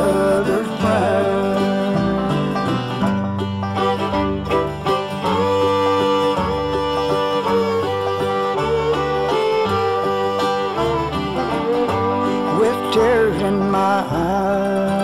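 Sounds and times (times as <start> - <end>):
string band playing: 0.0 - 15.0.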